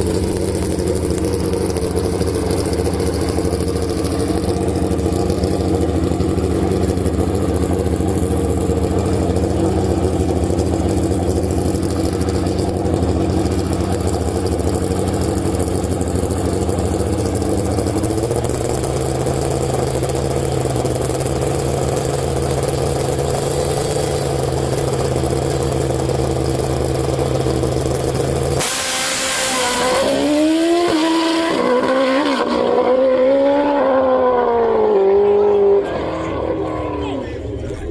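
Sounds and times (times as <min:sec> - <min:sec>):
motorcycle engine revving: 0:00.0 - 0:37.2.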